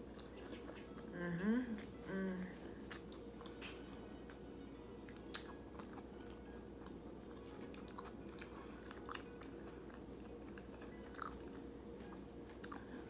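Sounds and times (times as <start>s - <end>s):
close-miked chewing: 0.0s - 13.0s.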